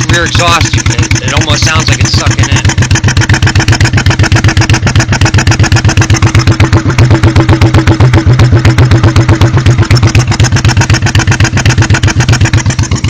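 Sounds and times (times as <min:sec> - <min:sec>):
motorcycle idling: 0:00.0 - 0:13.0.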